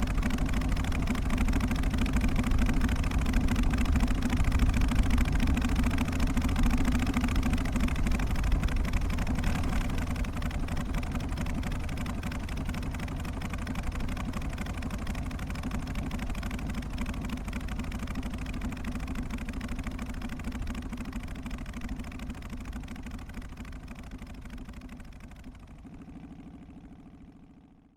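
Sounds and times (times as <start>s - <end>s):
motorcycle engine idling: 0.0s - 27.9s.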